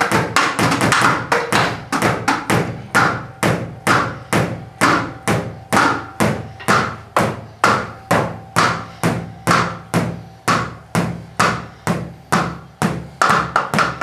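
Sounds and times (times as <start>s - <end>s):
drumsticks tapping electronic drum pads: 0.0s - 14.0s
faint cooling fan hum: 0.0s - 14.0s.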